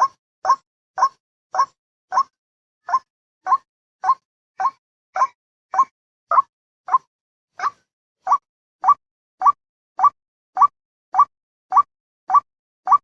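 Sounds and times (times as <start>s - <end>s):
recorded bird call: 0.0s - 13.0s.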